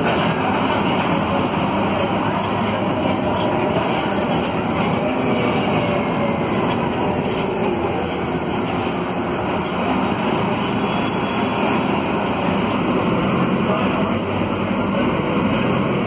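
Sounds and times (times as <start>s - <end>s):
bus diesel engine running: 0.0s - 16.0s
road noise: 0.0s - 16.0s.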